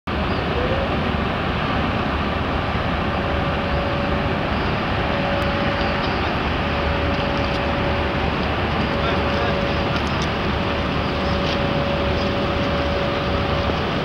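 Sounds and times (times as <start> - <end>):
ship engine rumble: 0.1 - 14.0.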